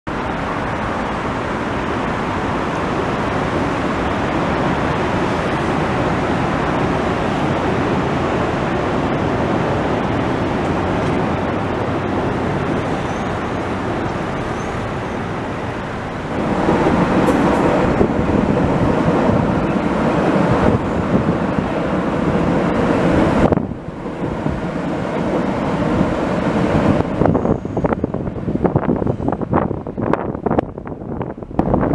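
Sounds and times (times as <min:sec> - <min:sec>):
city traffic noise: 0:00.0 - 0:31.9
train rumbling over steel bridge: 0:00.1 - 0:31.9.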